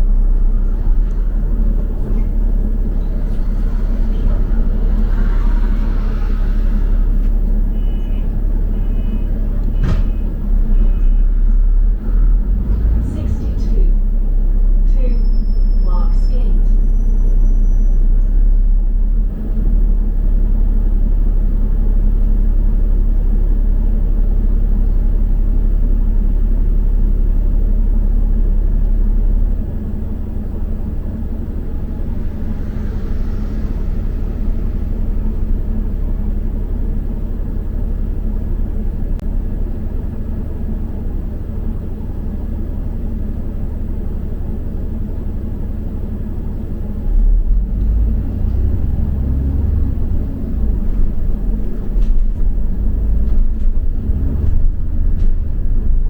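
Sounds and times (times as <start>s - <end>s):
bus rumbling on the move: 0.0s - 56.0s.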